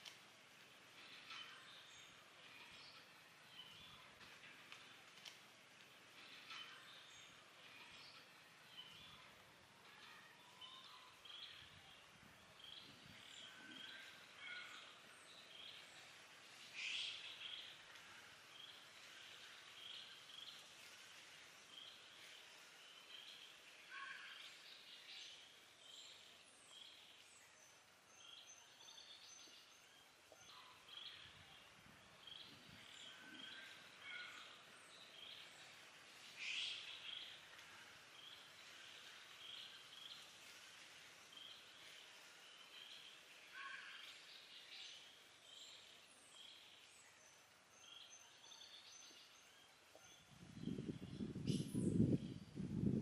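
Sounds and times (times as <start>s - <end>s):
bird chirping: 0.0s - 52.6s.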